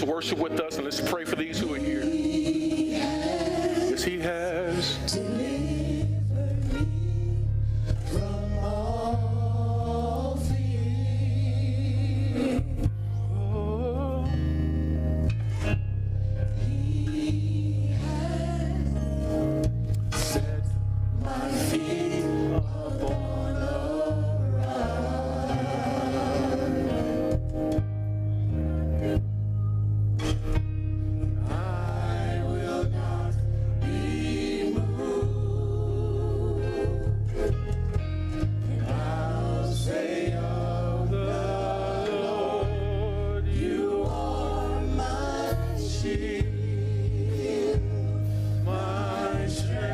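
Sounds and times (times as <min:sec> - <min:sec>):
worship team singing: 0:00.0 - 0:14.7, 0:16.4 - 0:27.8, 0:31.2 - 0:49.9
steady bass line: 0:00.0 - 0:49.9.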